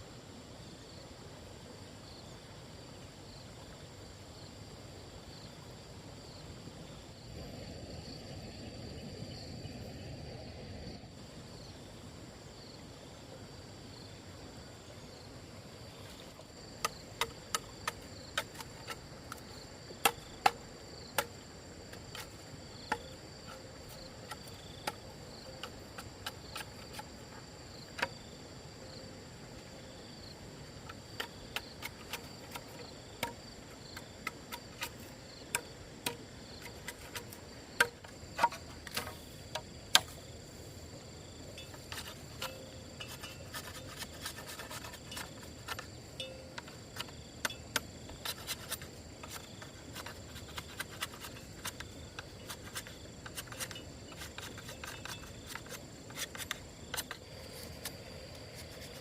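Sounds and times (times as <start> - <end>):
insects chirring: 0.5 - 59.0.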